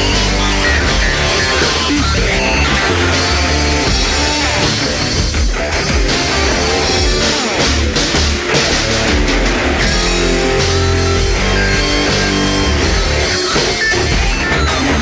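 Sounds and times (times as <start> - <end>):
rock music with electric guitar: 0.0 - 15.0.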